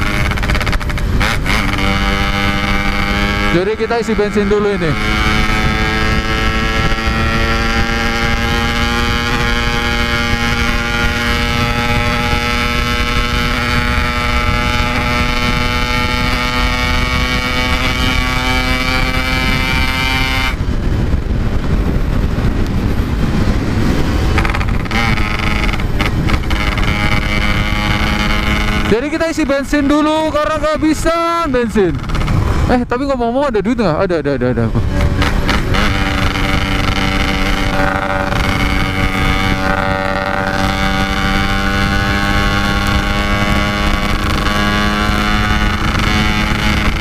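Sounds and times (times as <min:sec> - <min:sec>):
motorcycle engine running: 0:00.0 - 0:33.5, 0:34.1 - 0:47.0
road noise: 0:00.0 - 0:47.0
wind noise: 0:00.0 - 0:47.0.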